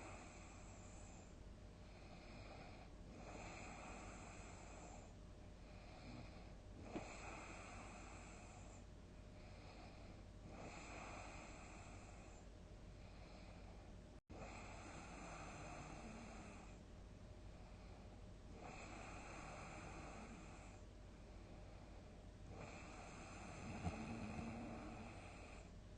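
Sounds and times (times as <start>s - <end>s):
person snoring softly: 0.0s - 16.8s, 17.5s - 25.8s.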